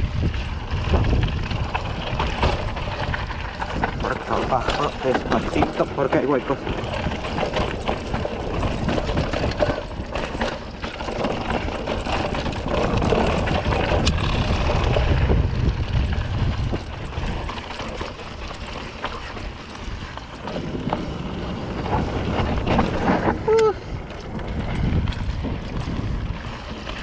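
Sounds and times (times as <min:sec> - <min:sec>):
bike rattling over bumps: 0:00.0 - 0:27.0
tyres on loose dirt: 0:00.0 - 0:27.0.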